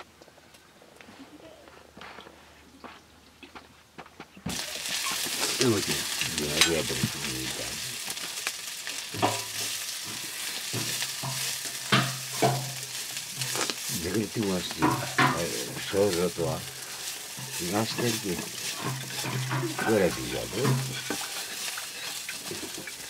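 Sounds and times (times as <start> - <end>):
food sizzling in a wok: 4.5 - 23.0
wooden spatula scraping a pan: 4.5 - 23.0.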